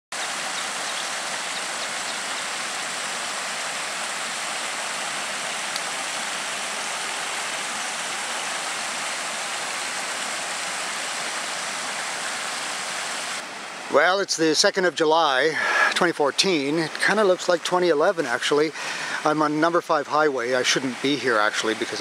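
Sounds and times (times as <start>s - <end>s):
rush of running water: 0.1s - 22.0s.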